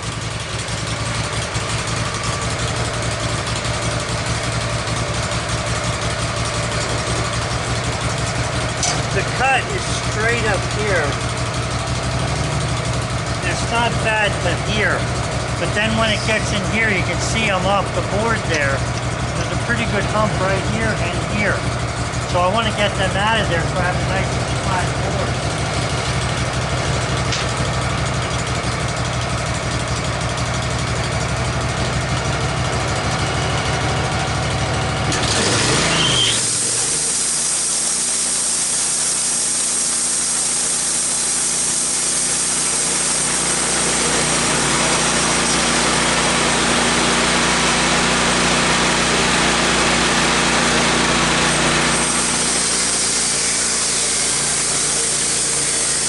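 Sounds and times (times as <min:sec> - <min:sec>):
band saw cutting log: 0:00.0 - 0:56.0
sawmill engine idling and revving: 0:00.0 - 0:56.0.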